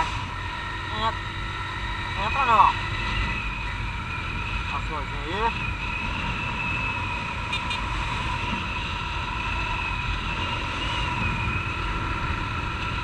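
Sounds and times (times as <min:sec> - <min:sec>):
steady whine: 0:00.0 - 0:13.0
wind rumble on microphone: 0:00.0 - 0:13.0.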